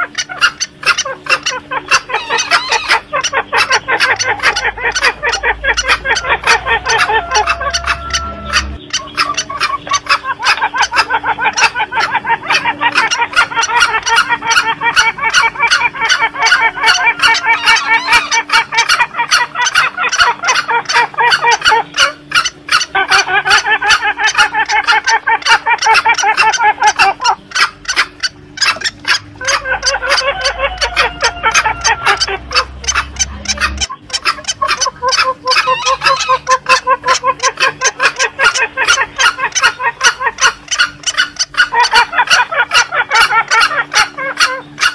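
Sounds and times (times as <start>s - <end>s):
junglefowl clucking calls: 0.0s - 44.9s.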